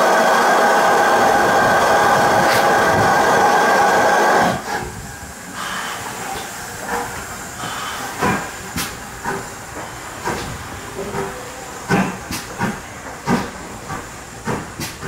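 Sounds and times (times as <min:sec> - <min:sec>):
sharp steam puffs: 0:00.0 - 0:15.0
steam locomotive hissing steam: 0:00.0 - 0:15.0.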